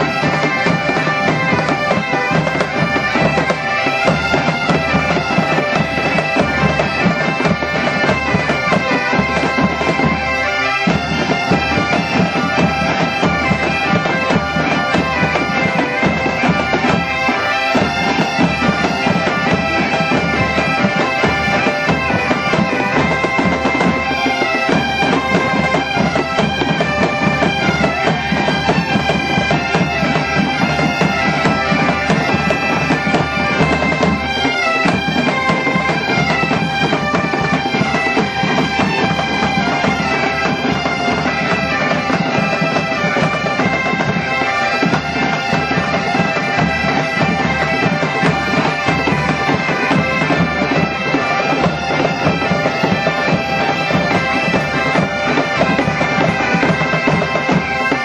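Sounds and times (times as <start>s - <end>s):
bagpipes playing over drones: 0.0s - 58.0s
bass drums and snare drums: 0.0s - 58.0s.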